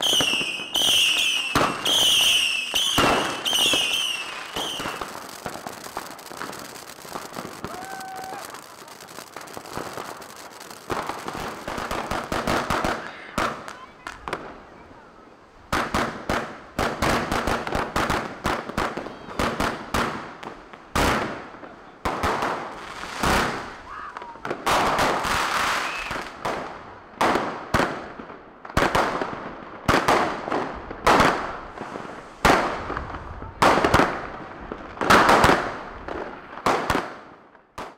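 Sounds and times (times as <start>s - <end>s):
firecrackers banging and crackling: 0.0s - 37.9s.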